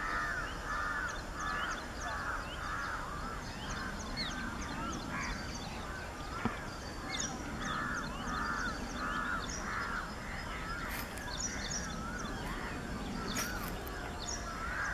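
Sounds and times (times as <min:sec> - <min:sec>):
birds calling: 0:00.0 - 0:14.9
low background noise: 0:00.0 - 0:14.9.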